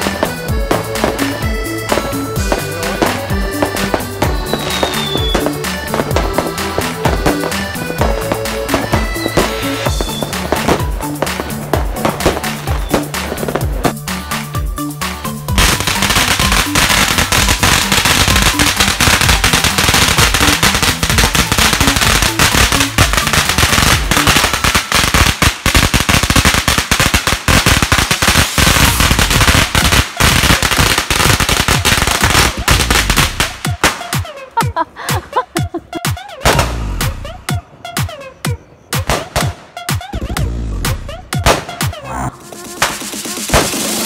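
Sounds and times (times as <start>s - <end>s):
firecrackers and fireworks exploding: 0.0s - 35.5s, 36.4s - 44.0s.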